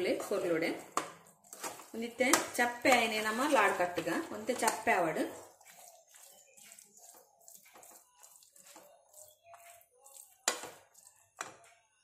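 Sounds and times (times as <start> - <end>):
spoon scraping in a pan: 0.0 - 11.7.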